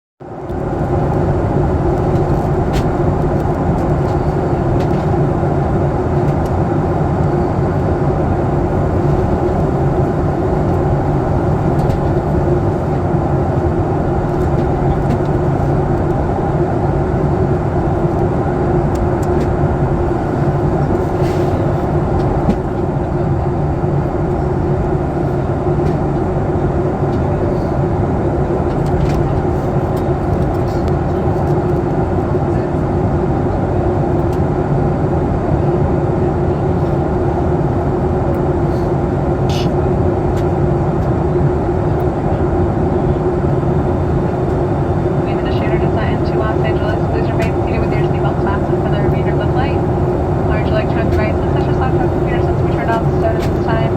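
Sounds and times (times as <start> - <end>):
airplane cabin roar: 0.2 - 53.9
low engine hum: 0.2 - 53.9.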